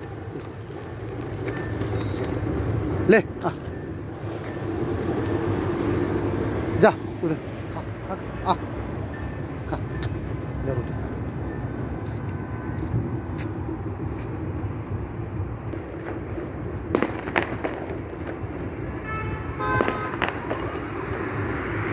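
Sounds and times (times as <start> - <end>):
distant road traffic rumble: 0.0 - 21.9.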